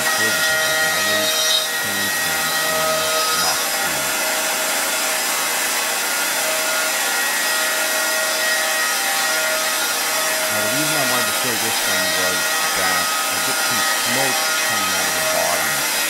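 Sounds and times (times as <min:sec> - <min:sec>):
rasp of wood being cut: 0:00.0 - 0:16.0
router spindle whine: 0:00.0 - 0:16.0.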